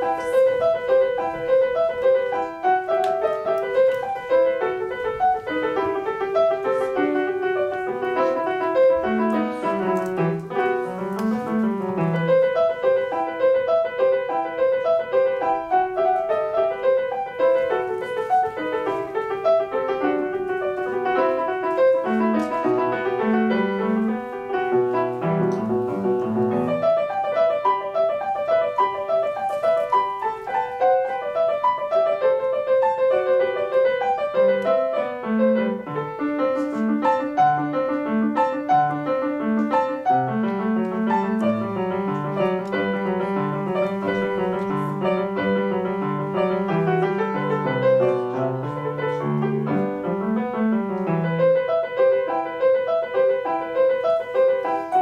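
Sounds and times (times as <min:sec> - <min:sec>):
solo grand piano: 0:00.0 - 0:55.0.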